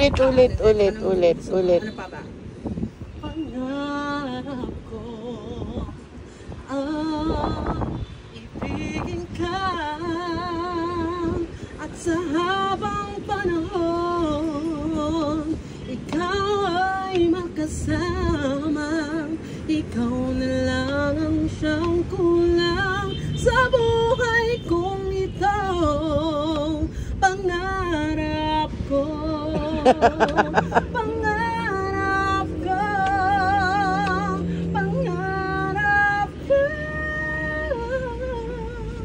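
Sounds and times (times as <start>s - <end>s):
person singing love ballad: 3.2s - 39.0s.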